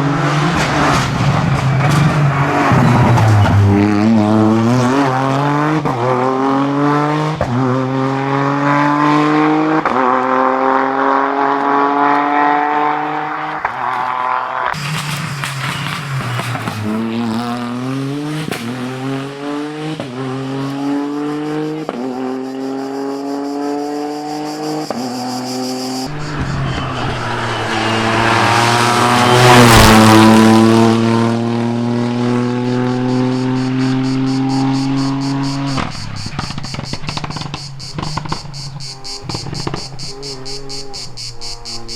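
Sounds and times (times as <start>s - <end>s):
rally car engine accelerating: 0.0s - 41.9s
rally car passing by: 0.0s - 41.9s.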